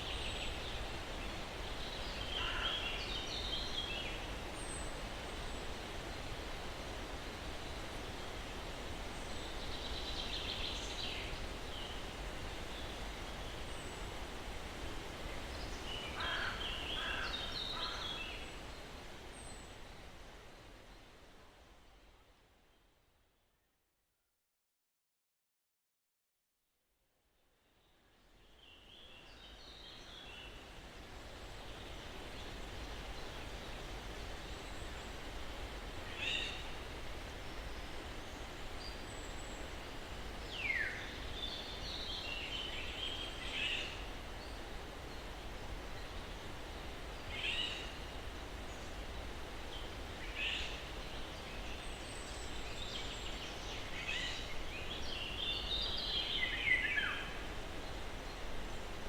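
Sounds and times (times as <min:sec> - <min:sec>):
breeze in trees: 0:00.0 - 0:24.3, 0:26.8 - 0:59.0.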